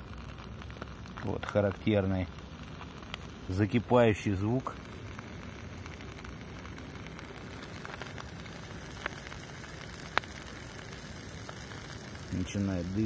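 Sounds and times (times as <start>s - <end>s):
steady soft hiss: 0.0s - 13.0s.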